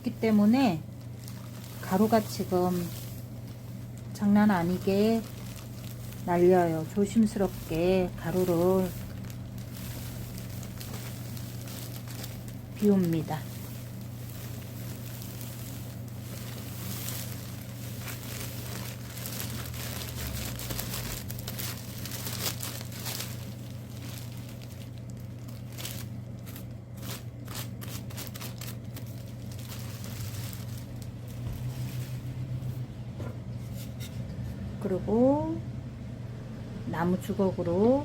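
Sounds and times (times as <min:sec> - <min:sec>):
packaging crinkling and rustling: 0:00.0 - 0:32.9
steady low hum: 0:00.0 - 0:38.0.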